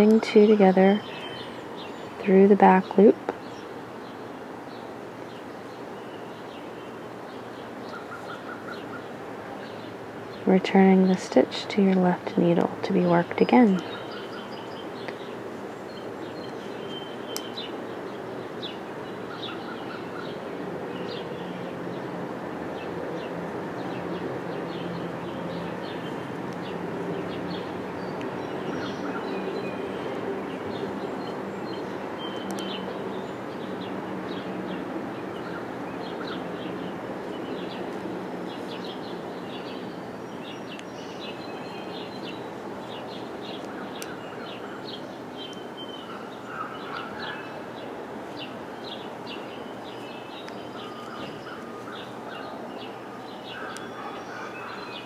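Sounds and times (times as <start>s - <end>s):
small birds chirping: 0.0s - 55.0s
steady background hiss: 0.0s - 55.0s.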